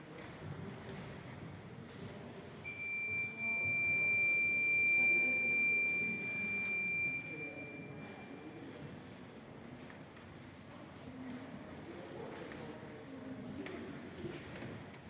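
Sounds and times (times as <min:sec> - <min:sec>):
faint room murmur: 0:00.0 - 0:15.0.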